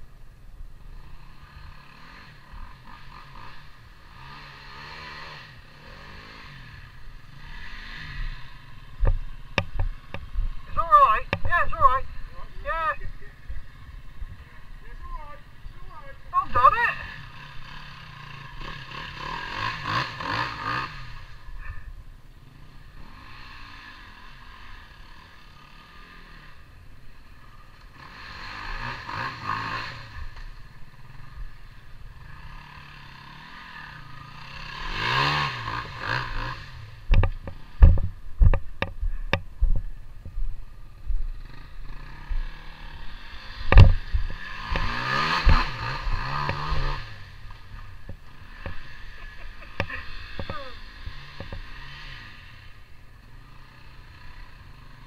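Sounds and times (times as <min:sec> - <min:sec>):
dirt bike engine revving: 0:00.8 - 0:39.9, 0:40.8 - 0:55.0.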